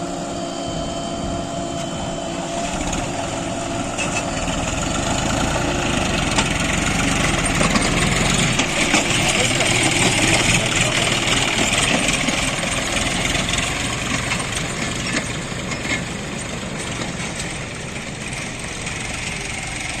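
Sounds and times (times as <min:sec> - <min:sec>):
diesel machinery engine running: 0:00.0 - 0:20.0.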